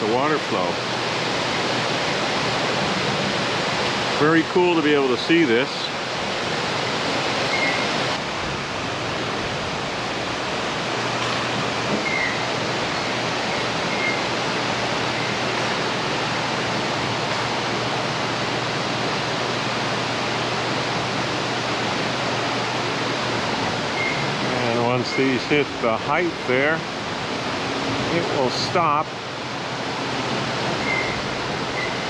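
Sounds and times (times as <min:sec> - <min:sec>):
water rushing: 0:00.0 - 0:32.0.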